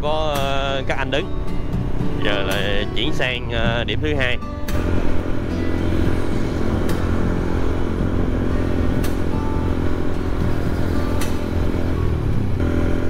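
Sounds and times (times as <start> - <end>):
motorcycle engine running: 0.0 - 13.0
road and wind rumble: 0.0 - 13.0.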